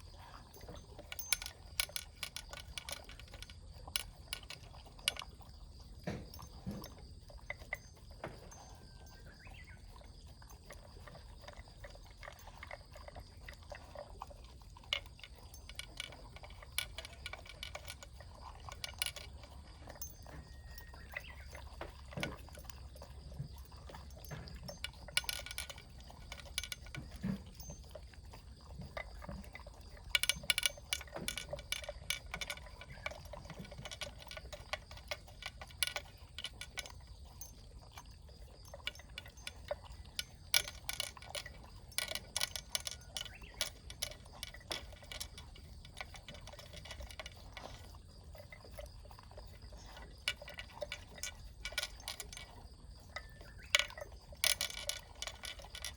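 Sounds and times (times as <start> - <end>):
pet crunching food from bowl: 0.0 - 55.9.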